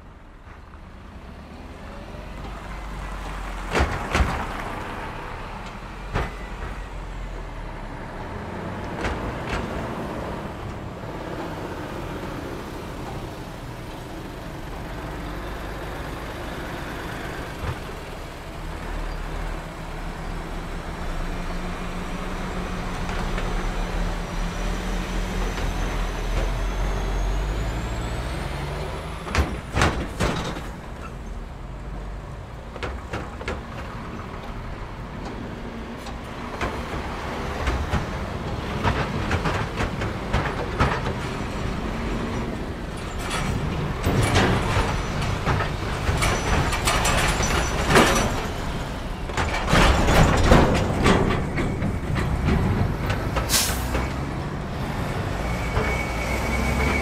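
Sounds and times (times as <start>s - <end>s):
vehicles rolling over crossing: 0.0s - 57.0s
wheels clunking on rails: 0.0s - 57.0s.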